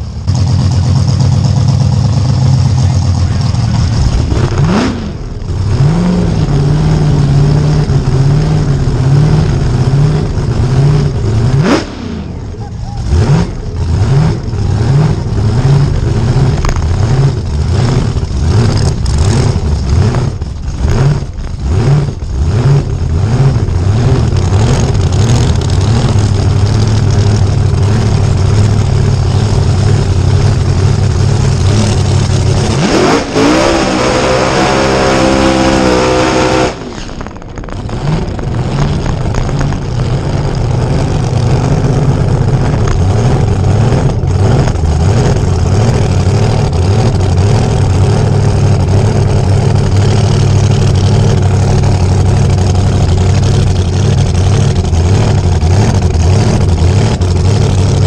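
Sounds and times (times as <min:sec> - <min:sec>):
drag car engine revving: 0:00.0 - 0:58.0.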